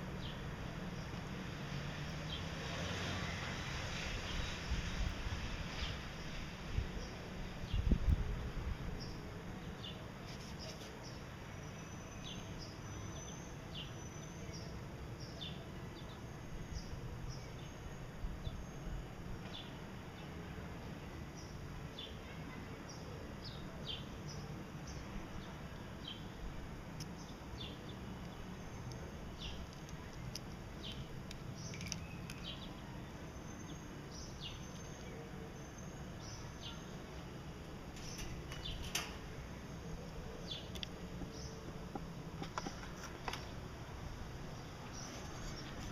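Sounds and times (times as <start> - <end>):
low background noise: 0.0 - 45.9.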